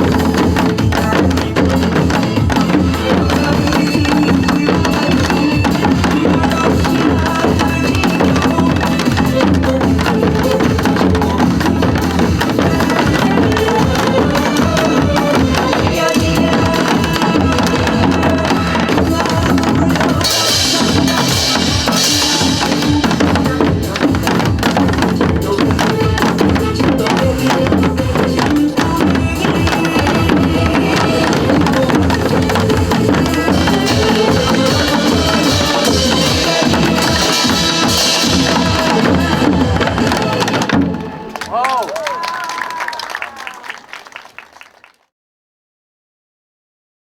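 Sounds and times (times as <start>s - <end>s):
pop song backing track: 0.0s - 42.5s.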